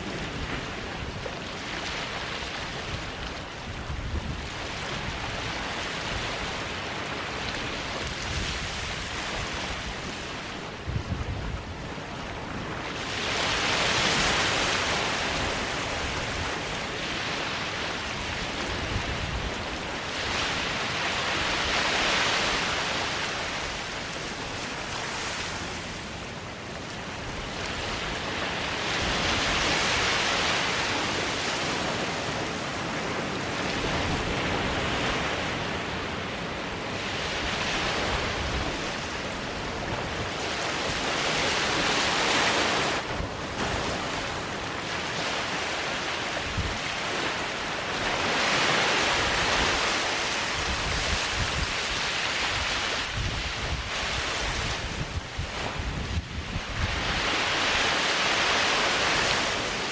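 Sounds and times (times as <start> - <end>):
waves breaking on sandy beach: 0.0 - 59.9.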